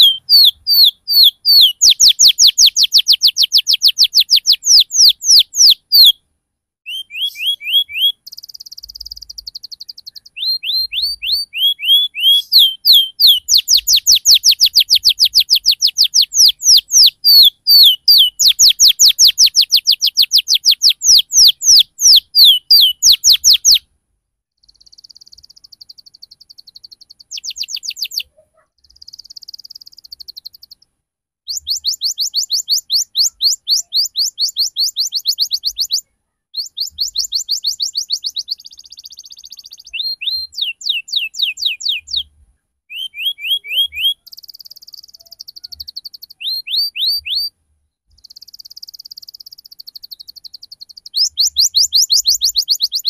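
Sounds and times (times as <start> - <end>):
canary singing trills: 0.0 - 6.2, 6.8 - 23.9, 24.6 - 30.9, 31.5 - 53.0.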